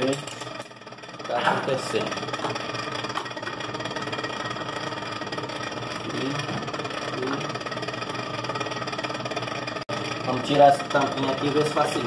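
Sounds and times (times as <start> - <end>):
refrigerator fan whirring: 0.0 - 12.0.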